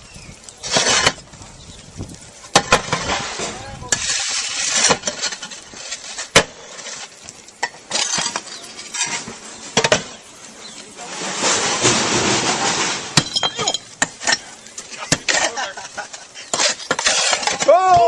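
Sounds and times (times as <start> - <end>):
clay roof tiles clinking: 0.6 - 1.3, 2.5 - 18.0.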